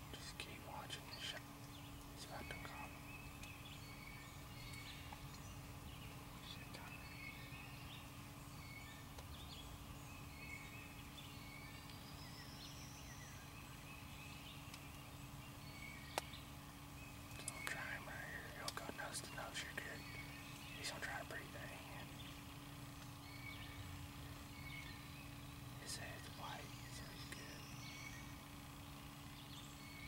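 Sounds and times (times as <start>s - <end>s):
steady low hum: 0.0s - 30.0s
songbird chirps and whistles: 0.1s - 22.3s, 23.1s - 28.5s.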